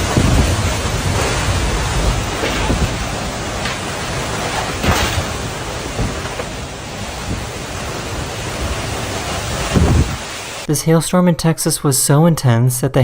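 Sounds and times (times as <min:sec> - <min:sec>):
wind and rain rushing: 0:00.0 - 0:10.7.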